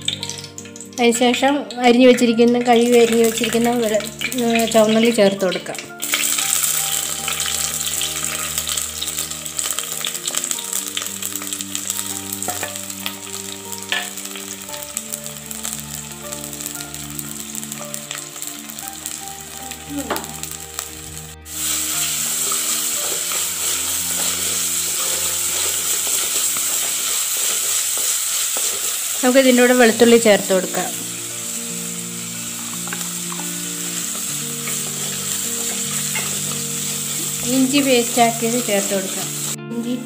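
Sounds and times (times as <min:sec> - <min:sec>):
shallots sizzling in oil: 0:00.0 - 0:40.0.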